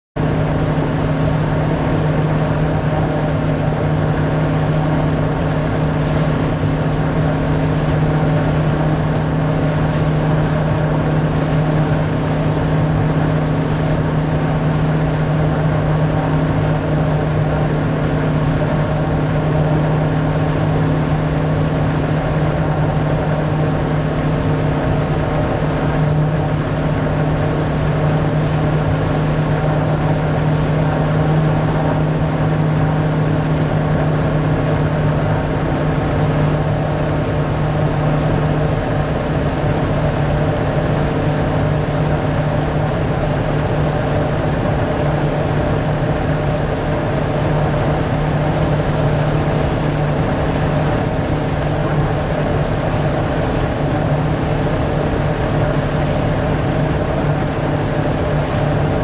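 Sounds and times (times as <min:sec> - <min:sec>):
boat engine humming: 0:00.2 - 0:59.0
rushing boat wake: 0:00.2 - 0:59.0.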